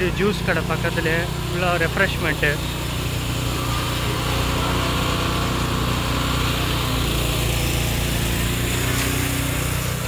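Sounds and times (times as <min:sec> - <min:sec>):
small engine droning: 0:00.0 - 0:10.0.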